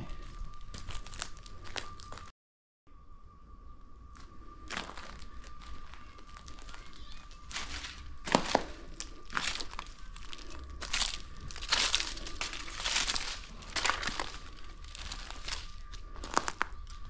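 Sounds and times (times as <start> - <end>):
footsteps crunching over debris: 0.0 - 2.3, 4.2 - 17.0.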